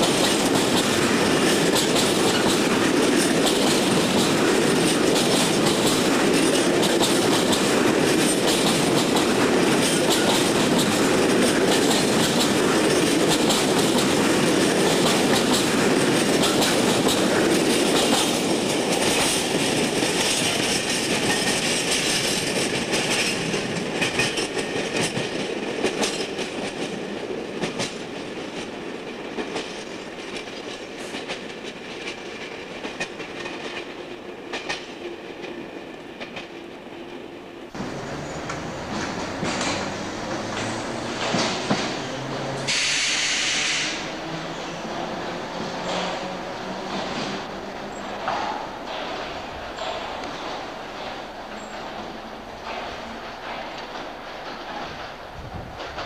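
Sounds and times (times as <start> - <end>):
train wheels clacking over rail joints: 0.0 - 36.7, 37.7 - 56.0.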